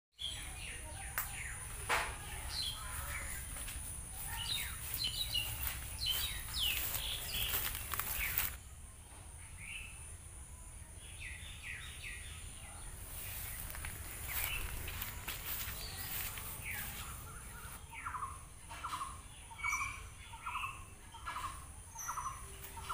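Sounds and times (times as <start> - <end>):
birds chirping: 0.2 - 22.9.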